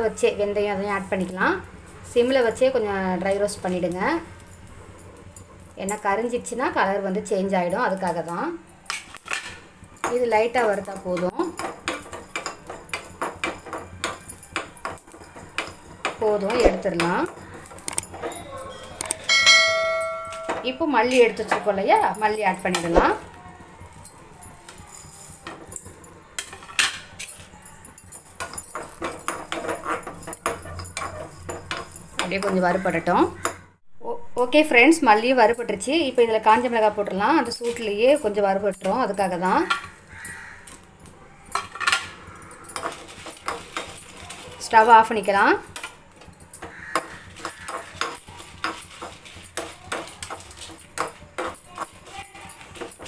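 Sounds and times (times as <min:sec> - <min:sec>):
dry spices rattling: 0:00.0 - 0:19.4, 0:20.4 - 0:33.7, 0:35.0 - 0:53.0.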